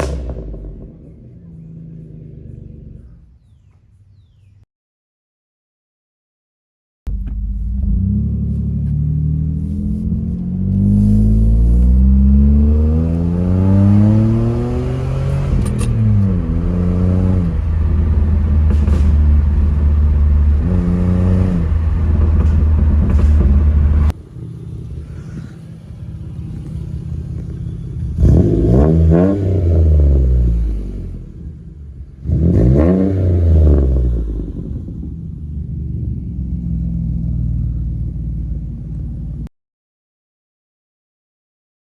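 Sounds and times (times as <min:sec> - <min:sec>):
car exhaust revving: 0:00.0 - 0:03.2, 0:07.1 - 0:39.4.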